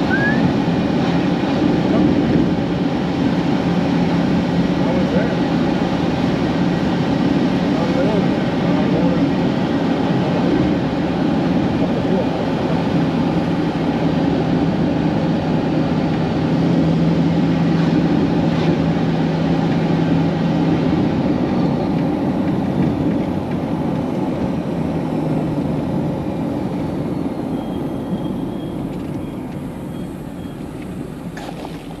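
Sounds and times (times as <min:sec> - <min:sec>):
vehicle engine and road noise: 0:00.0 - 0:32.0.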